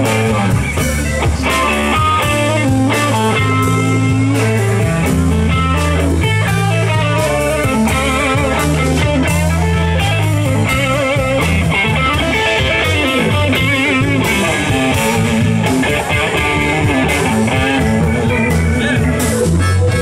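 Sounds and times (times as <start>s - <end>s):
blues band playing: 0.0s - 20.0s
electric guitar lead: 0.0s - 20.0s.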